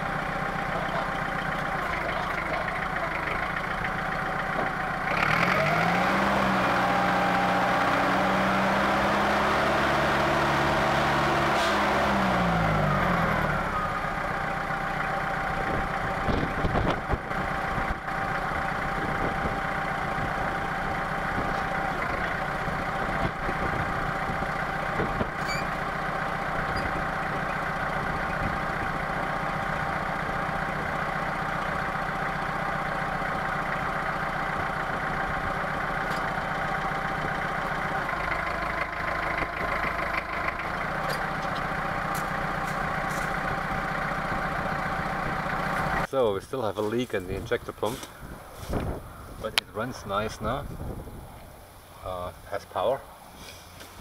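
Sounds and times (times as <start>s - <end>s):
diesel forklift engine revving: 0.0s - 52.4s.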